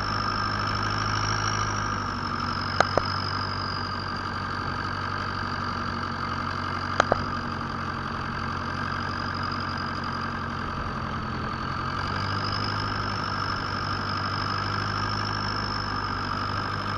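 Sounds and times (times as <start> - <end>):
boat engine running: 0.0 - 16.9
high whine: 0.0 - 16.9.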